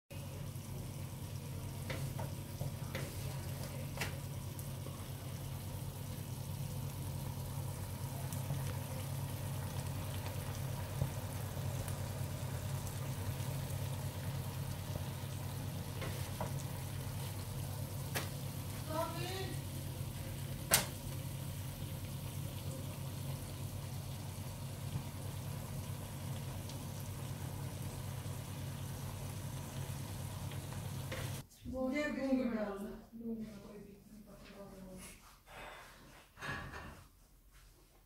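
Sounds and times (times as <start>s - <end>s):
meat sizzling in a frying pan: 0.2s - 31.4s.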